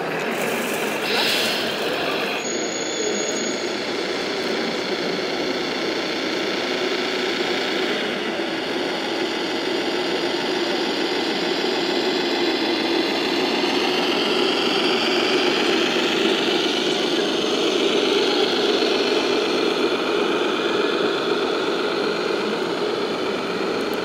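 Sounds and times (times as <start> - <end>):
model truck engine drone: 0.0 - 24.0.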